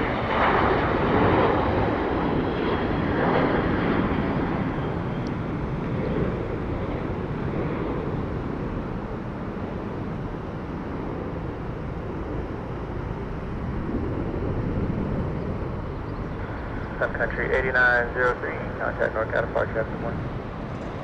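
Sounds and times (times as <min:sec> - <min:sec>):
jet engine rush: 0:00.0 - 0:21.0.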